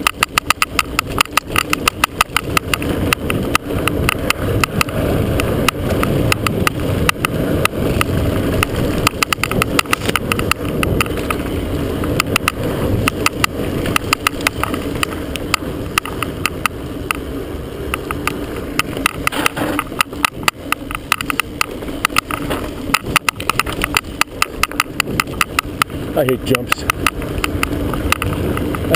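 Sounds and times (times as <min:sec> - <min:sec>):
wind and tyre rumble: 0:00.0 - 0:28.9.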